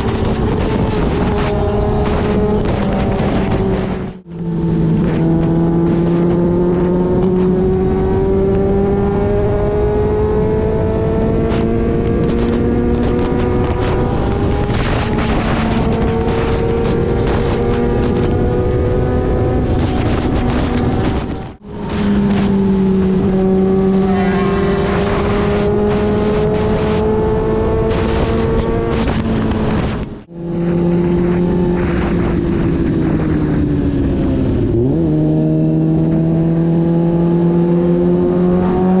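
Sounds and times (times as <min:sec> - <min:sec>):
constant rushing noise: 0:00.0 - 0:39.0
motorcycle engine running: 0:00.0 - 0:39.0.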